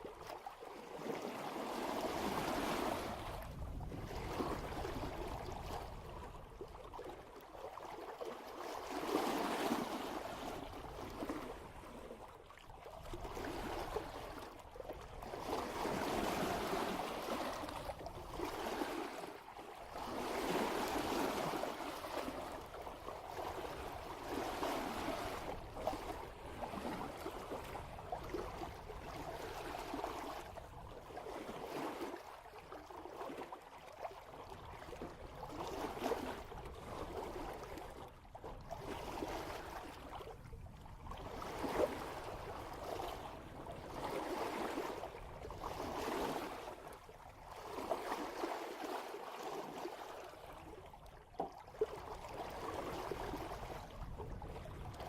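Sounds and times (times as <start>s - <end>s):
water rushing and splashing at bow: 0.0s - 55.0s.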